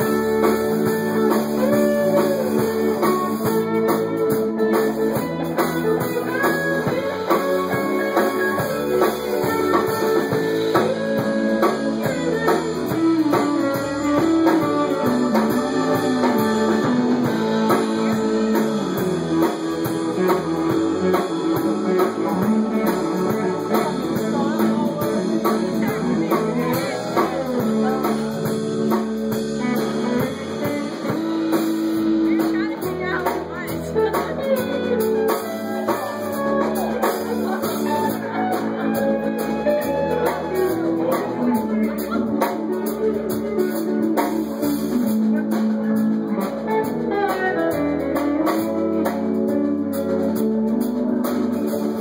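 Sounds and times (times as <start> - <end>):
drum kit beat: 0.0 - 52.0
guitars: 0.0 - 52.0.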